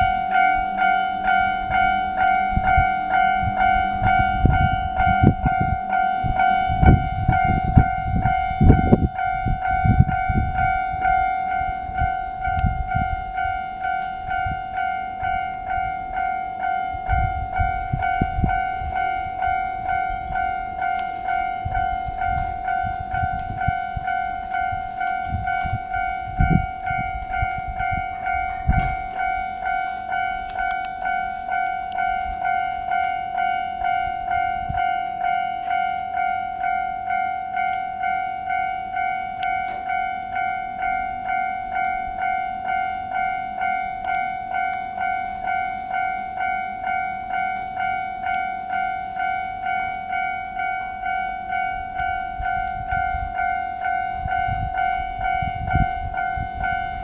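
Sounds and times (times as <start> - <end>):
level-crossing warning bell ringing: 0.0 - 57.0.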